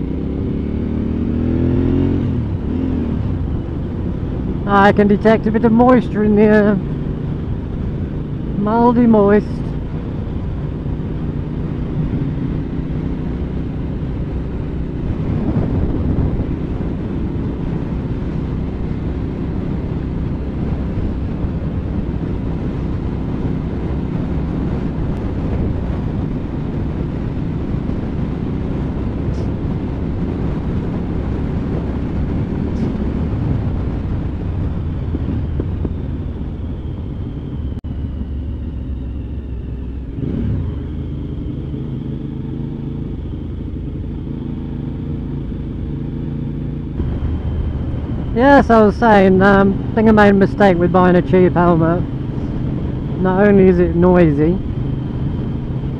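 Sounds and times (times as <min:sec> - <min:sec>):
motorcycle engine running: 0:00.0 - 0:55.9
wind noise on microphone: 0:09.0 - 0:55.9.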